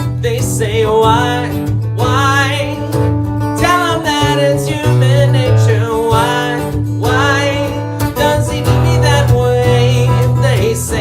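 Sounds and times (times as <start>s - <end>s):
acoustic guitar playing: 0.0s - 11.0s
person singing: 0.0s - 11.0s.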